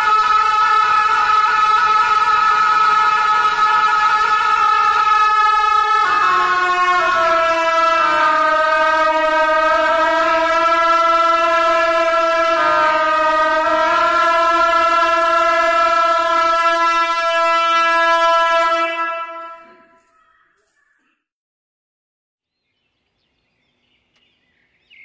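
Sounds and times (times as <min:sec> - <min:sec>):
double-reed horn held notes: 0:00.0 - 0:20.1.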